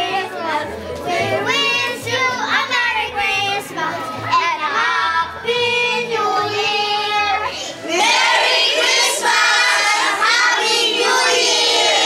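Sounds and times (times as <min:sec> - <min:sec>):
children singing into microphone: 0:00.0 - 0:12.0
many voices singing together: 0:00.0 - 0:12.0.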